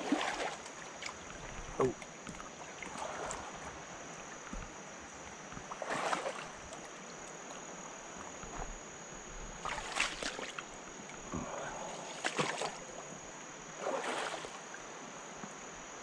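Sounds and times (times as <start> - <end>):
river water splashing: 0.0 - 15.6
high-pitched insect drone: 0.0 - 16.0.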